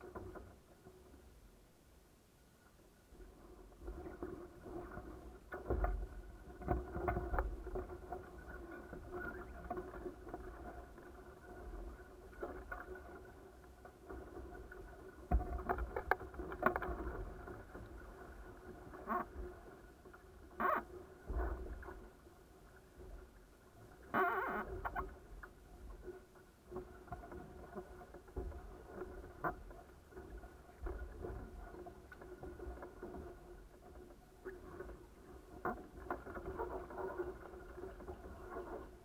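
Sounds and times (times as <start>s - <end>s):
faint steady hum: 0.0s - 39.0s
water lapping at hulls: 3.0s - 39.0s.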